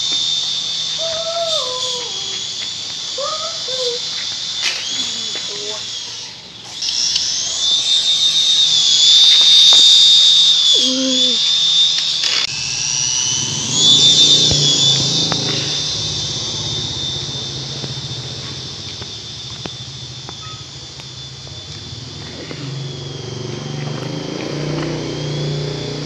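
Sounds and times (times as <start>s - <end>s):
low hum: 0.0s - 26.0s
toy helicopter rotor motors whining: 0.0s - 26.0s.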